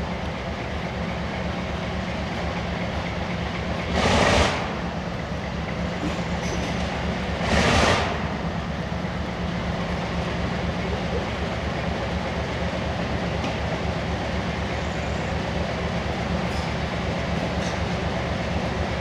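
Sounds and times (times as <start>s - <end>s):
diesel locomotive engine rumbling: 0.0s - 19.0s.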